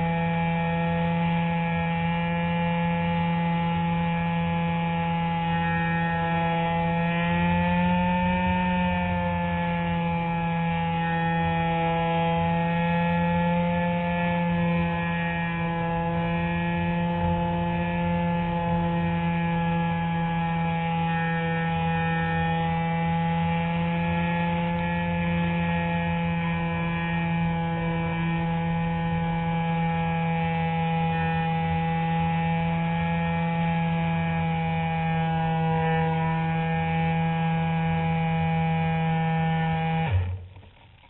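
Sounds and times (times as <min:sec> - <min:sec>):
electric motor and propeller humming: 0:00.0 - 0:41.0.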